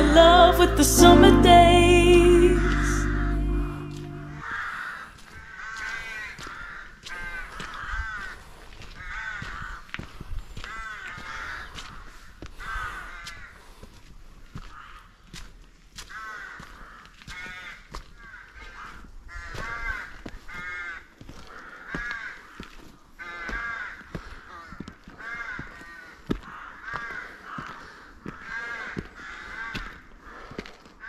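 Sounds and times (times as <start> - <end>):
footsteps on a path: 5.1 - 31.0.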